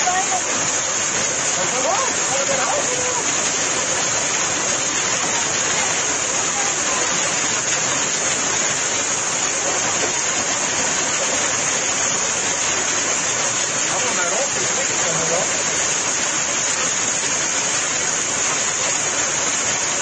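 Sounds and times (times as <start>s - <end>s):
hail and torrential rain: 0.0s - 20.0s.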